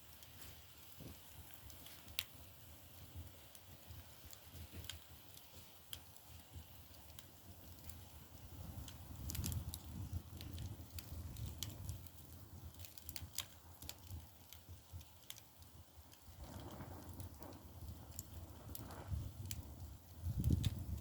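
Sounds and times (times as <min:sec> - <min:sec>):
firewood crackling and popping: 0:00.0 - 0:21.0
low rumble of fire: 0:00.0 - 0:21.0.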